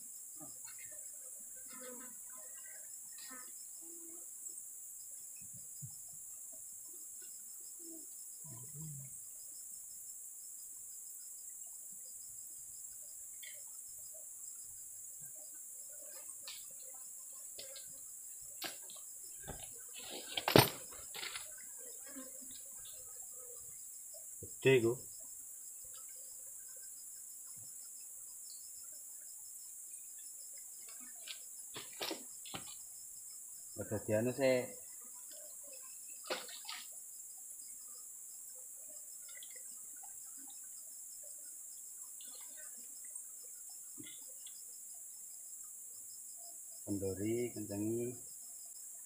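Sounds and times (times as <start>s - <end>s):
insects chorus: 0.0s - 49.0s.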